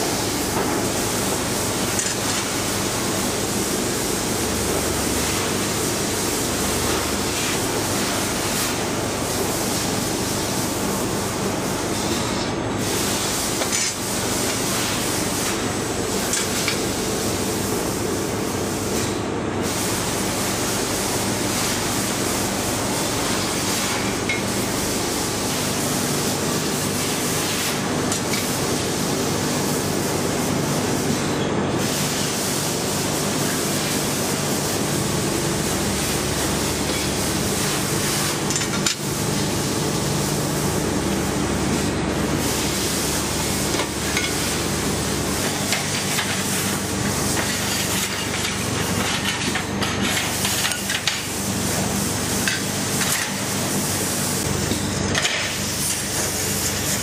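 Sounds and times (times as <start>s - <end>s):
workshop machinery hiss and hum: 0.0s - 57.0s.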